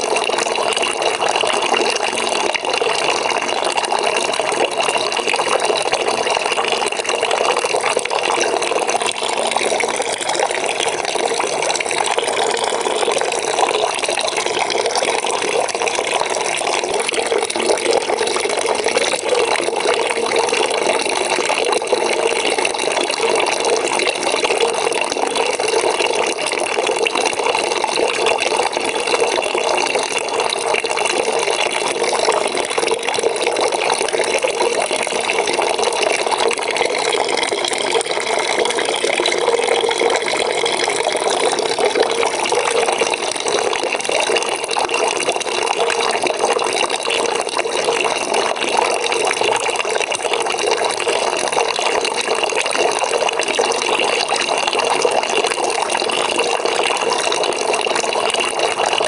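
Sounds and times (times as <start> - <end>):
water running into a bucket: 0.0 - 59.0.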